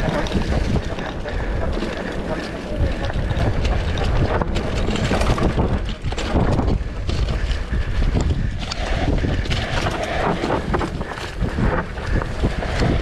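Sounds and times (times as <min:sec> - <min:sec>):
bike tyre rumble: 0:00.0 - 0:13.0
wind buffeting microphone: 0:00.0 - 0:13.0.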